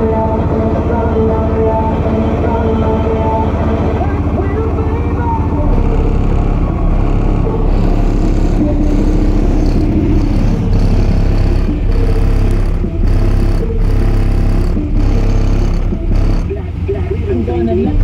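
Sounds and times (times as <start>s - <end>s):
loud bass-heavy music: 0.0s - 18.0s.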